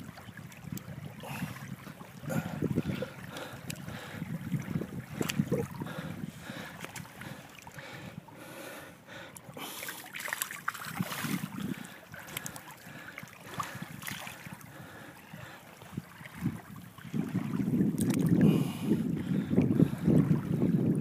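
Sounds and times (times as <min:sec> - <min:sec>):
water lapping at shore: 0:00.0 - 0:21.0.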